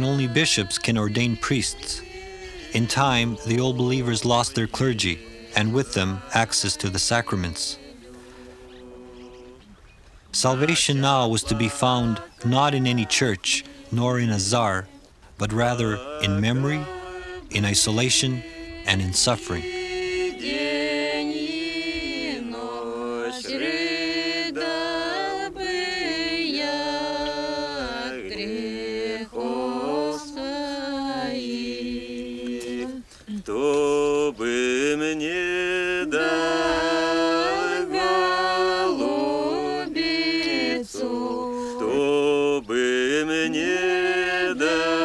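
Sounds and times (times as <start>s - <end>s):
unaccompanied chanted singing: 0.0s - 45.0s.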